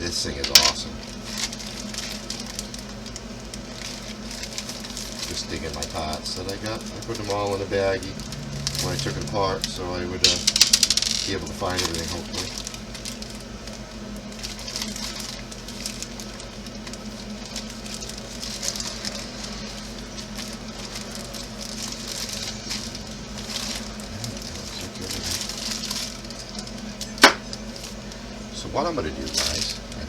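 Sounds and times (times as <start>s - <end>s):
plastic bag rustling: 0.0s - 30.0s.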